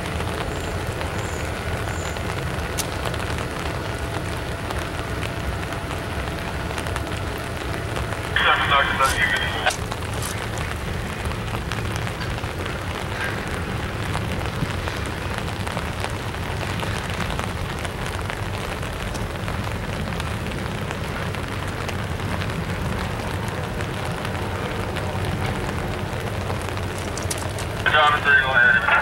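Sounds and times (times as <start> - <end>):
train rumbling across steel bridge: 0.0 - 29.0.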